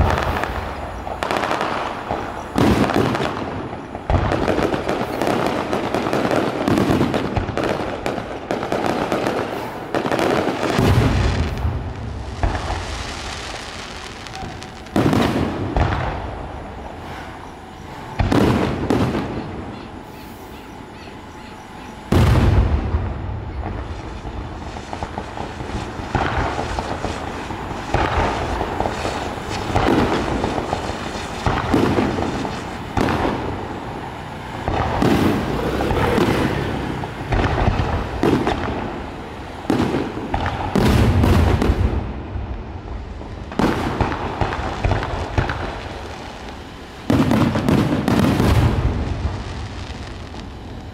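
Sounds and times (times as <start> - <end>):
firework pops and crackles: 0.0 - 20.4, 22.1 - 50.9
firework booms: 0.0 - 50.9.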